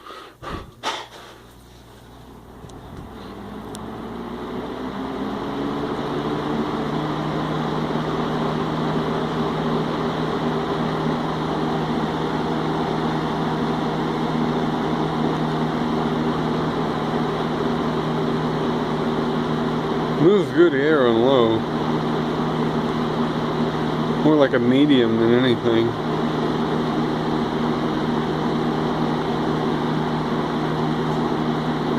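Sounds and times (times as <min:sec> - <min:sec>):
box fan humming: 0:00.0 - 0:31.9.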